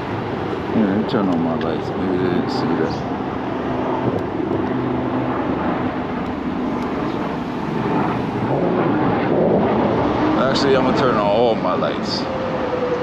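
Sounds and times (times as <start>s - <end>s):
low hum of vehicle engines: 0.0s - 13.0s
wind and road noise: 0.0s - 13.0s.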